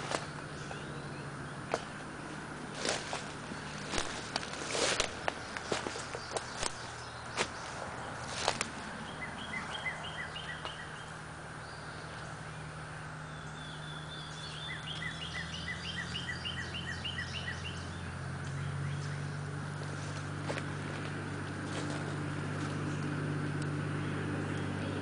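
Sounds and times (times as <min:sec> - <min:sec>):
songbird singing: 0:00.0 - 0:25.0
steady low hum: 0:00.0 - 0:25.0.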